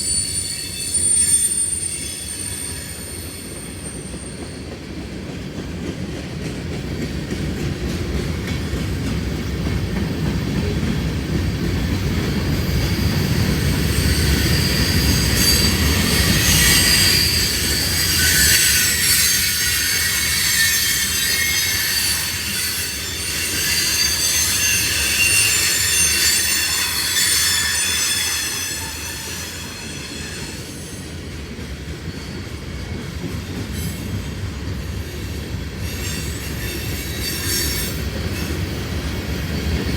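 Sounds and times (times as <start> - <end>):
train wheels squealing: 0.0 - 5.0, 8.2 - 39.9
train wheels rumbling on rail: 0.0 - 39.9.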